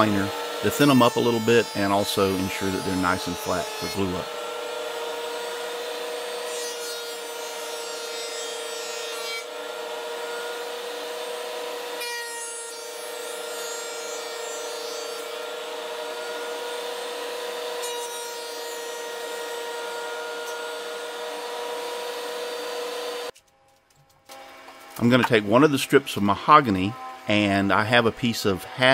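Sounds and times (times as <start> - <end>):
planer cutting wood: 0.0 - 23.4, 24.4 - 28.9.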